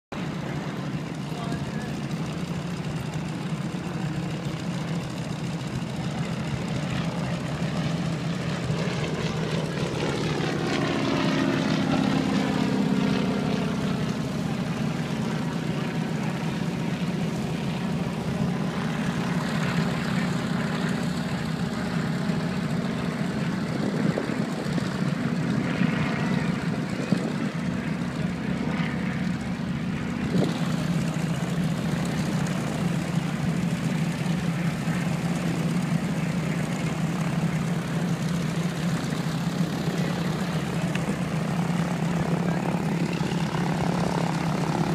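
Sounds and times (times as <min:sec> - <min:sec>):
propeller aircraft engine droning: 0:00.1 - 0:44.9.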